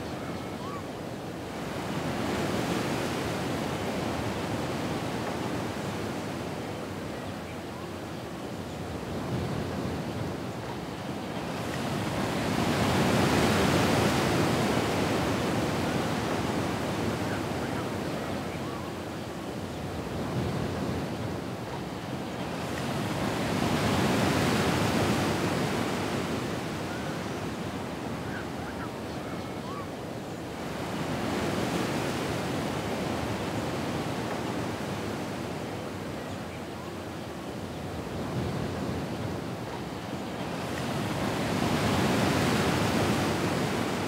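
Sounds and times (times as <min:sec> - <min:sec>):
ocean waves on shore: 0:00.0 - 0:44.0.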